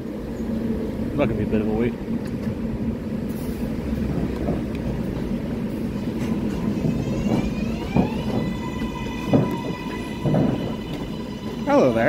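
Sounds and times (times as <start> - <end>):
subway train hum and rumble: 0.0 - 12.0.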